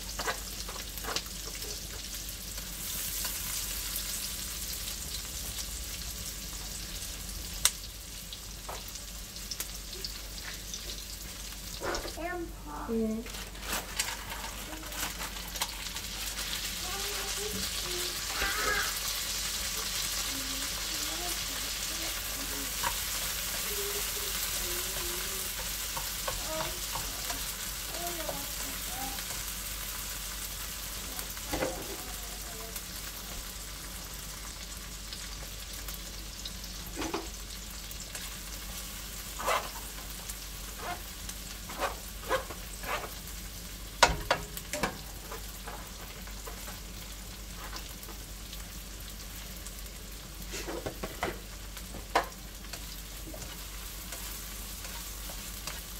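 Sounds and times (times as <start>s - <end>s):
vegetables sizzling in hot oil: 0.0s - 55.9s.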